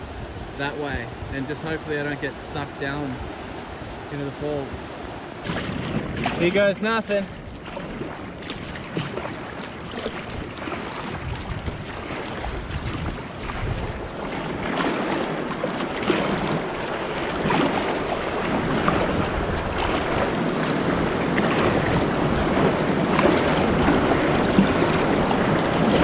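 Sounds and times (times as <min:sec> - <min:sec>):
whitewater rushing: 0:00.0 - 0:26.0.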